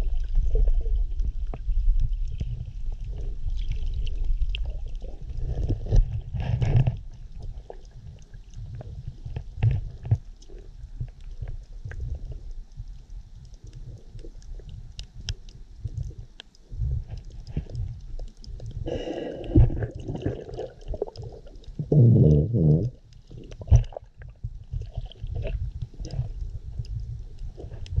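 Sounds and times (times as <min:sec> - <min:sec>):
muffled underwater rumble: 0:00.0 - 0:28.0
faint underwater clicks: 0:00.1 - 0:28.0.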